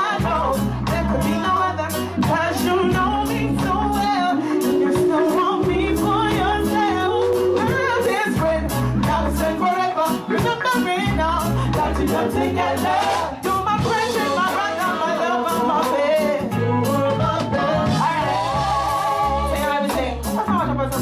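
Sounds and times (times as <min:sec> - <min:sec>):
live band playing slow song: 0:00.0 - 0:21.0.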